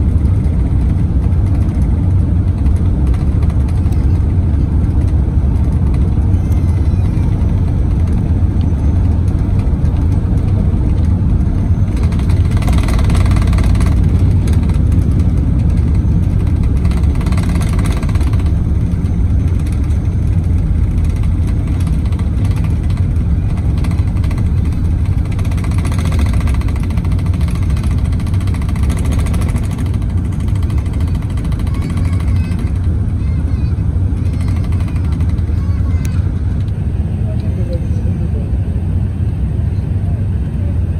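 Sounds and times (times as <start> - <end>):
jet engines deep rumble: 0.0 - 40.9.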